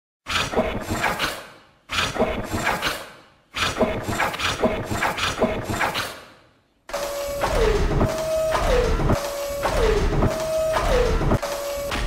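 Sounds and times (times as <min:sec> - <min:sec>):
robot mechanical clicking: 0:00.3 - 0:06.3, 0:06.9 - 0:12.0.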